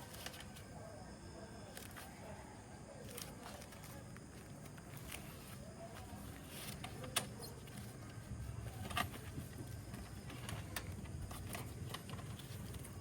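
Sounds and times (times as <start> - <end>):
low steady background rumble: 1.7 - 13.0.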